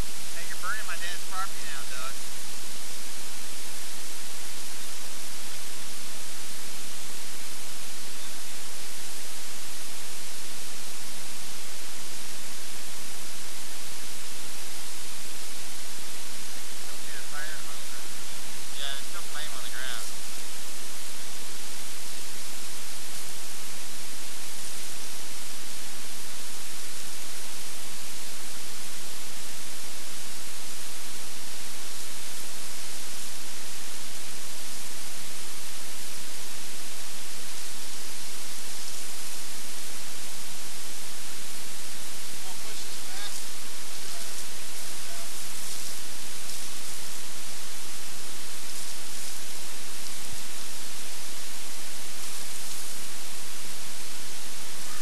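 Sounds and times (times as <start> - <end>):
faint low hum: 0.0 - 55.0
recording hiss: 0.0 - 55.0.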